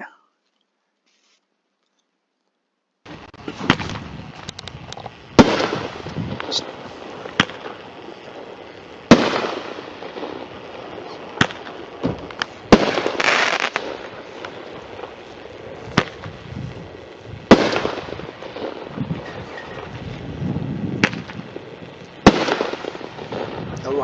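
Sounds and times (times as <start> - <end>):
firework crackling hiss: 3.0 - 24.0
fireworks bangs: 3.1 - 24.0.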